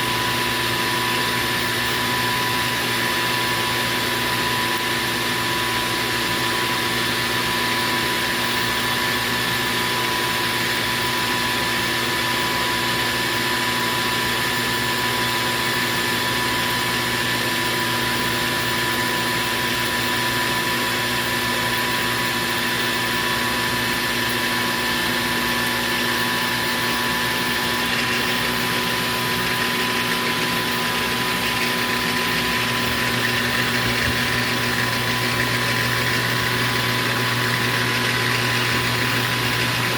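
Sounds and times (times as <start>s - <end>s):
metal lathe motor hum and whine: 0.0s - 39.9s.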